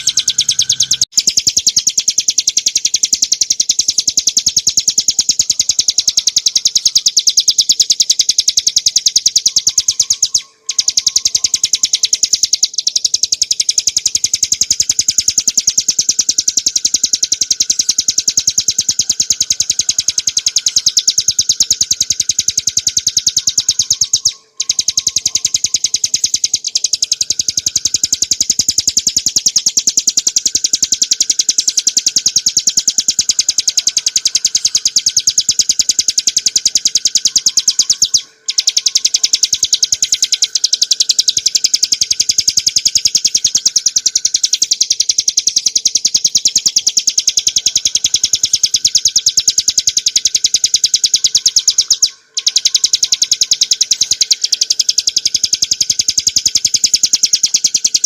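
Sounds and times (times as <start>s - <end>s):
small bird singing rapid notes: 0.0s - 58.0s.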